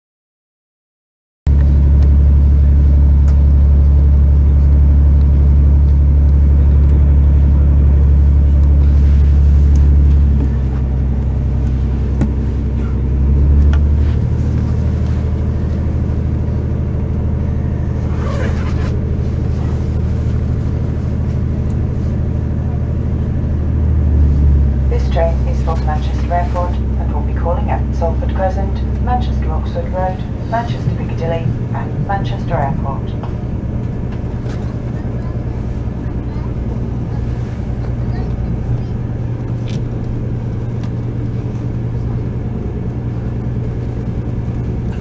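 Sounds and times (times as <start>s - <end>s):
train engine hum inside carriage: 1.5s - 45.0s.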